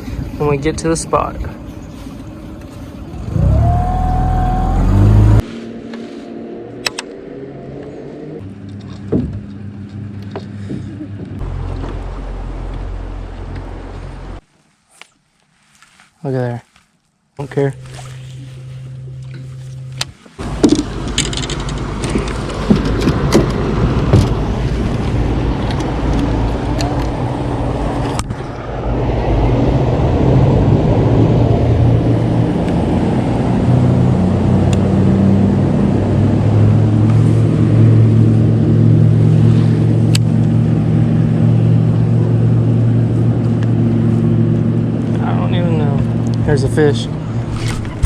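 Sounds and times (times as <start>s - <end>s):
boat motor running: 0.0s - 5.4s, 6.8s - 14.4s, 17.5s - 48.0s
water noise: 0.0s - 10.5s, 11.1s - 14.6s, 17.6s - 48.0s
wind: 0.0s - 48.0s.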